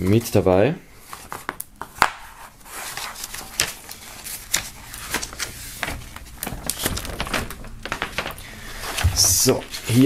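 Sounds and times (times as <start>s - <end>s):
paper rustling and crackling: 1.0s - 10.0s.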